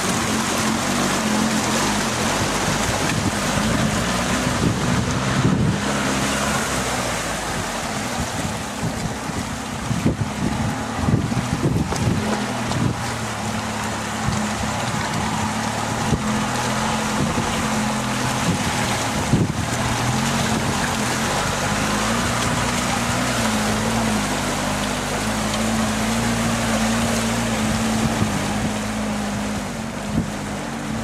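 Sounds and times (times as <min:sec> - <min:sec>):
engine running under load: 0:00.0 - 0:31.0
water splashing around tyres: 0:00.0 - 0:31.0.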